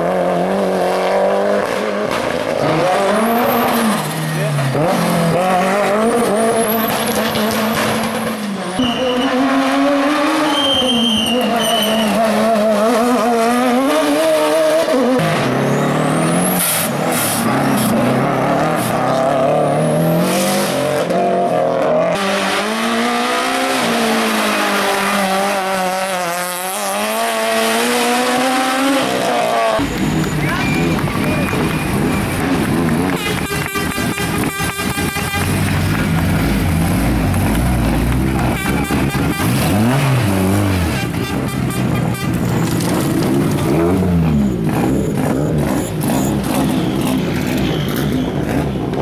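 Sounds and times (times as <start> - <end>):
race car engine revving: 0.0 - 41.3, 42.5 - 49.0.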